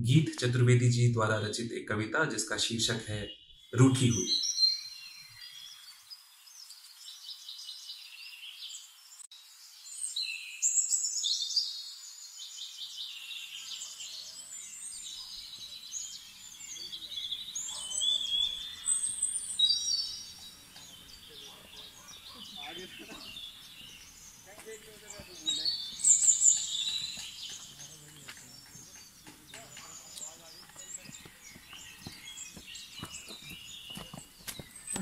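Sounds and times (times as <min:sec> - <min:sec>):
small birds chirping and singing: 0:00.0 - 0:35.0.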